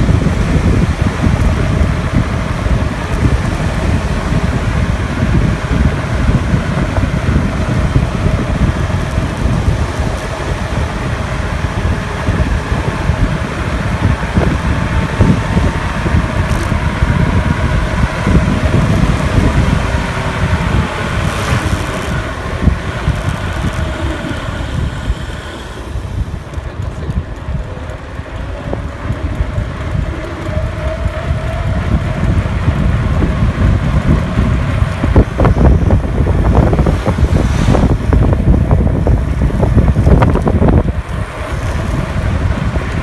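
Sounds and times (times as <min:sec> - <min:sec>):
faint vehicle whine: 0:00.0 - 0:43.0
wind buffeting microphone: 0:00.0 - 0:43.0.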